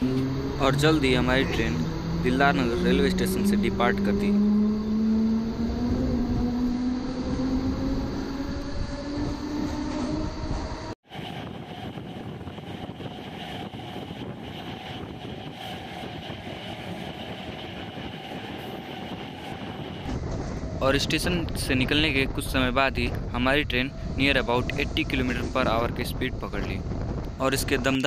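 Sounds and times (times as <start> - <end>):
rumble of train coaches: 0.0 - 28.0
train running at speed: 0.0 - 28.0
train whine rising in pitch: 0.0 - 28.0.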